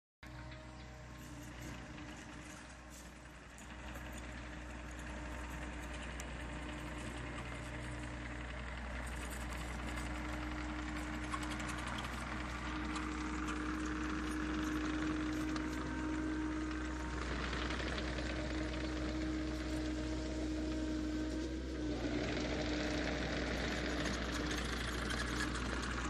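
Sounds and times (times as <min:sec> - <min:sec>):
excavator diesel engine running: 0:00.2 - 0:26.0.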